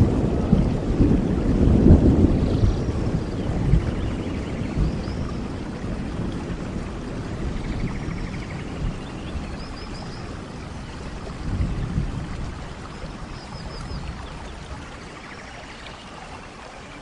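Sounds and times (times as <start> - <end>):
steady tropical rain: 0.0 - 17.0.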